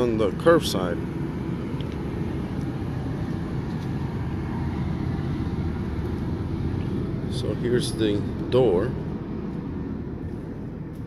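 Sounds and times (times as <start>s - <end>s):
diesel generator humming: 0.0s - 11.0s.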